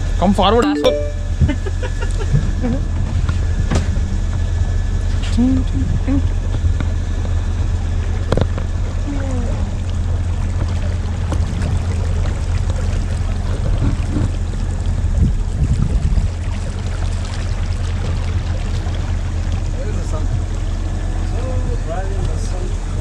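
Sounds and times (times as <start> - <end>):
motorboat engine droning: 0.0 - 23.0
water splashing along hull: 0.0 - 23.0.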